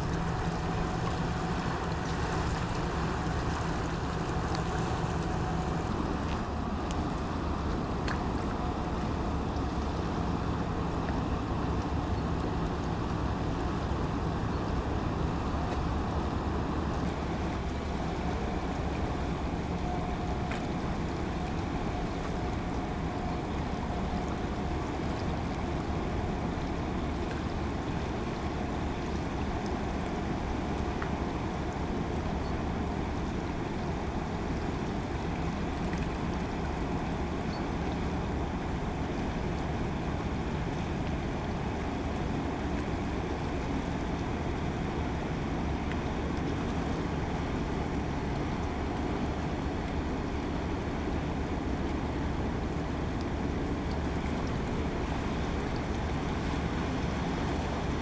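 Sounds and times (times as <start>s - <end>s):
barge diesel engines droning: 0.0s - 58.0s
river water washing: 0.0s - 58.0s
wind: 0.0s - 58.0s.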